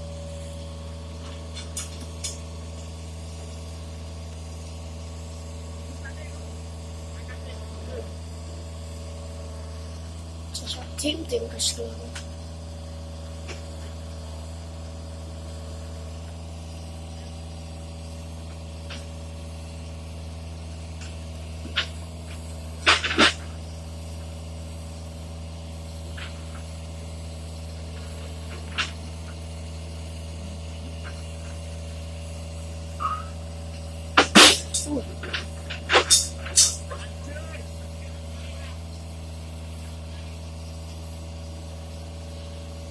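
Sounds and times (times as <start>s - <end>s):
engine idling hum: 0.0s - 42.9s.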